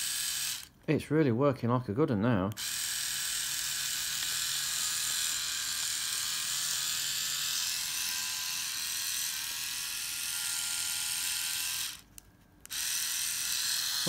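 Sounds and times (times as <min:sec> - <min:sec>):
electric shaver motor buzzing: 0:00.0 - 0:00.7, 0:02.6 - 0:14.0.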